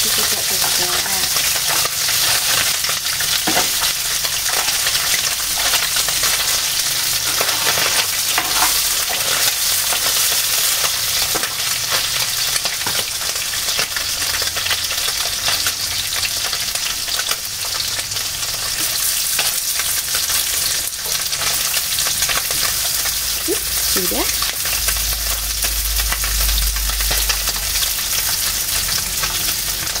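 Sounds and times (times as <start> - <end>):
fish sizzling in hot oil: 0.0 - 30.0.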